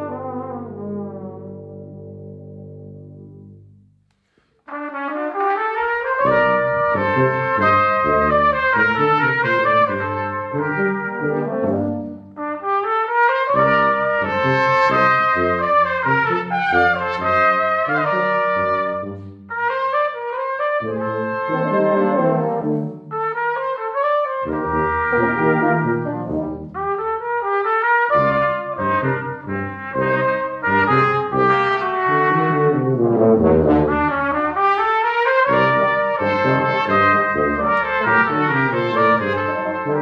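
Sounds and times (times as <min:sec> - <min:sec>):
brass quintet playing tango: 0:00.0 - 0:03.7, 0:04.7 - 0:40.0.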